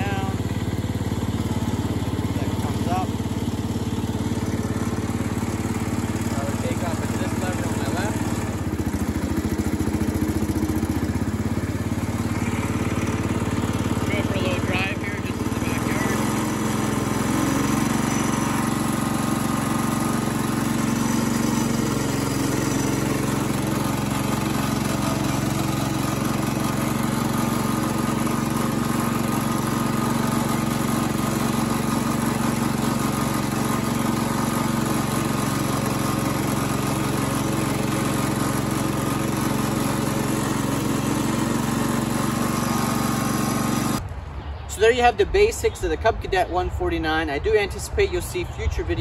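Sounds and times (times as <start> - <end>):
garden tractor engine running: 0.0 - 46.0.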